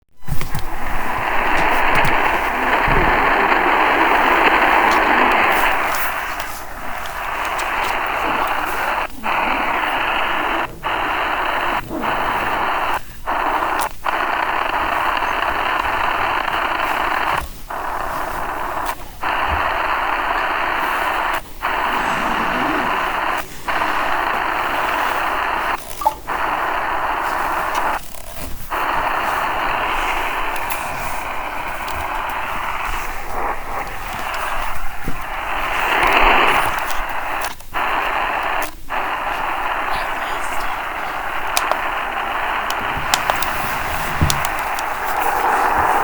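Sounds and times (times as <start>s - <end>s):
static-like hiss: 0.0s - 46.0s.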